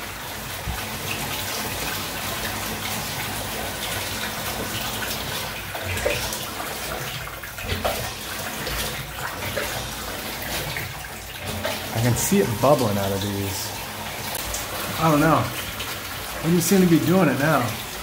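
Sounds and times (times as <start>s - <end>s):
water bubbling from shower head: 0.0s - 18.0s
water running into bathtub: 0.0s - 18.0s.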